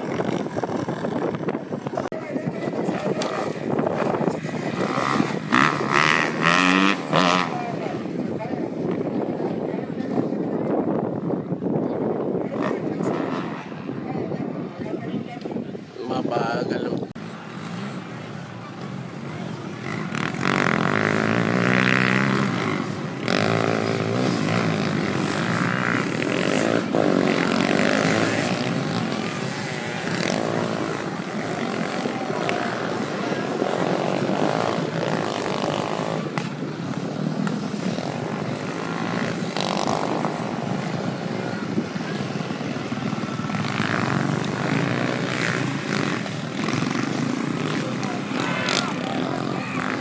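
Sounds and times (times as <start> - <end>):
dirt bike engines revving: 0.0 - 50.0.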